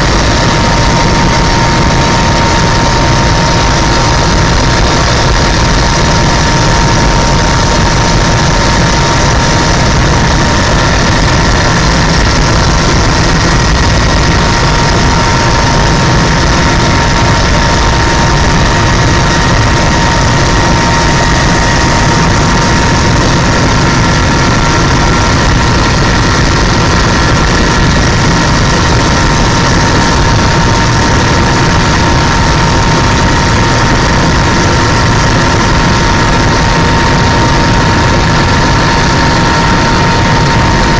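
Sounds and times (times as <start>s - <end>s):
helicopter engine and rotor noise: 0.0s - 40.9s
high engine whine: 0.0s - 40.9s.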